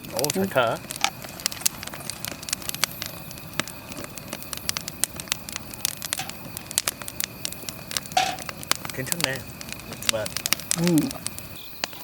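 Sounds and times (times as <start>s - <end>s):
grill pops and snaps: 0.0s - 12.0s
low steady hiss: 0.0s - 12.0s.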